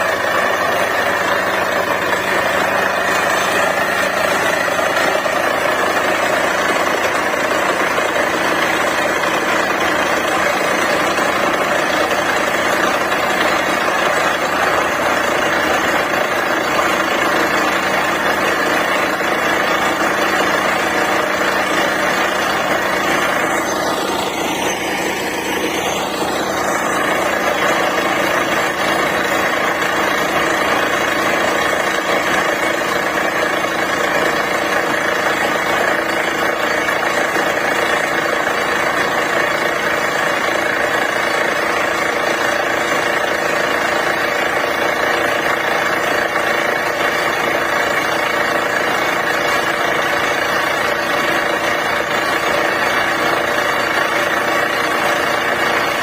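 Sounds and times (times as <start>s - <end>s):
drilling rig engine running: 0.0s - 56.0s.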